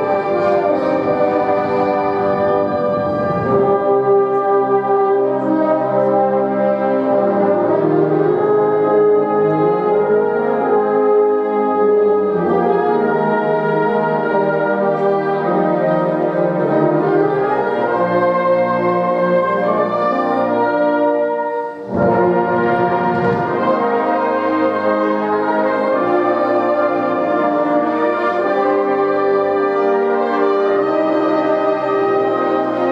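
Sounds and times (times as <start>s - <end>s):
brass ensemble playing chords: 0.0s - 32.9s.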